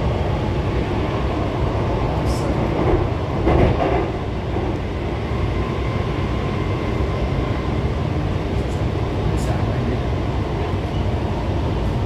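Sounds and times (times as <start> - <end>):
metro train rumbling on rails: 0.0 - 12.0.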